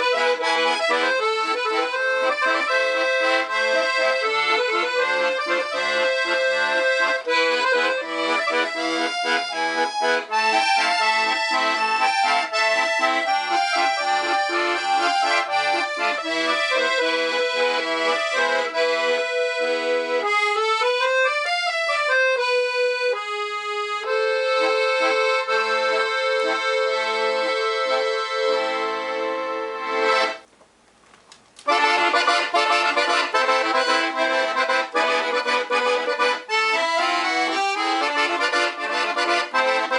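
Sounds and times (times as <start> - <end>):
accordion playing chords: 0.0 - 30.5, 31.6 - 39.9.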